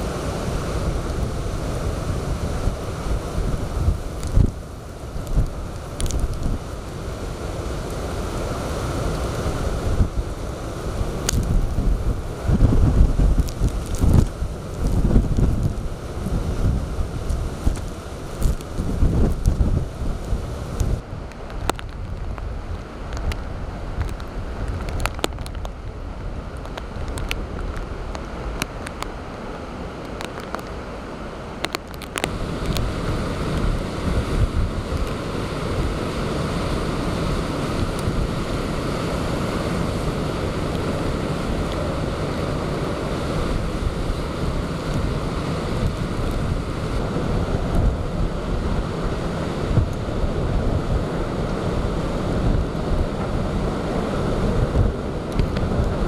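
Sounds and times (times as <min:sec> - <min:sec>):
wind buffeting microphone: 0:00.0 - 0:29.1, 0:31.7 - 0:56.0
waves crashing: 0:00.0 - 0:56.0.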